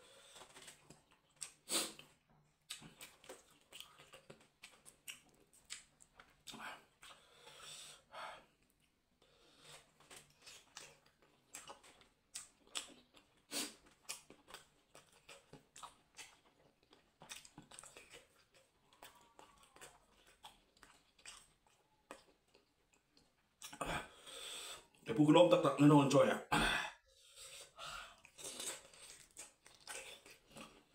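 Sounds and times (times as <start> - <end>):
person chewing: 0.0 - 25.1, 27.2 - 30.9.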